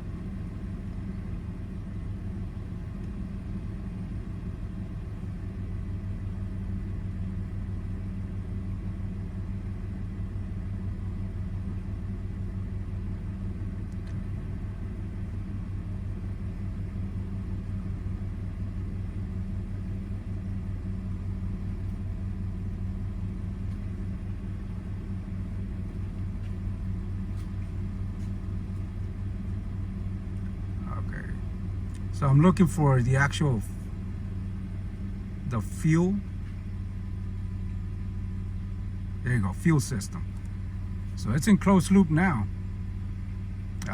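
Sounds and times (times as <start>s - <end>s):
car engine running steadily: 0.0s - 43.9s.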